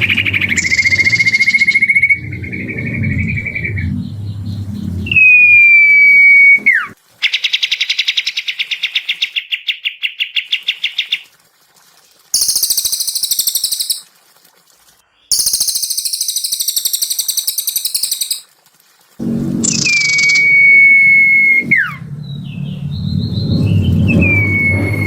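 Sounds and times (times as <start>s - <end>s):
songbird singing: 0.0s - 11.0s, 12.4s - 14.0s, 15.2s - 18.4s, 19.6s - 25.0s.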